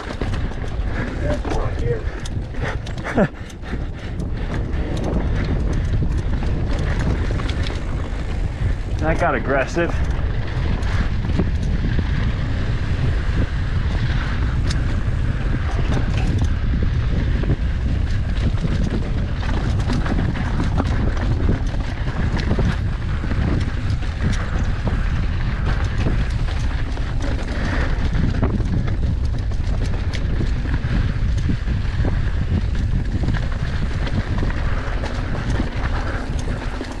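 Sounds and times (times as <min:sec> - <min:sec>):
bike clicks and rattles: 0:00.0 - 0:37.0
tyres rolling over dirt: 0:00.0 - 0:37.0
wind on microphone: 0:00.0 - 0:37.0.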